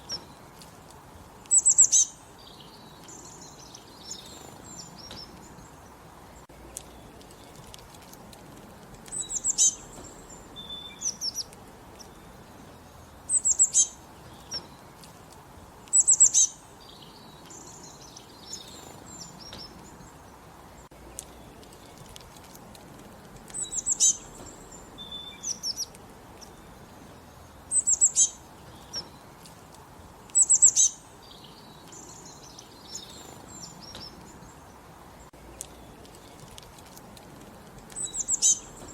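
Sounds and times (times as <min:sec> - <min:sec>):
faint background hiss: 0:00.0 - 0:38.9
soft bird chirps: 0:00.0 - 0:38.9
songbirds singing: 0:00.0 - 0:38.9.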